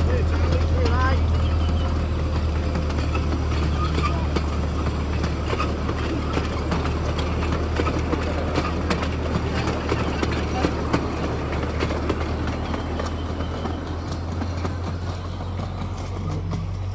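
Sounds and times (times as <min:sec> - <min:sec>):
train wheels clicking over rail joints: 0:00.0 - 0:16.9.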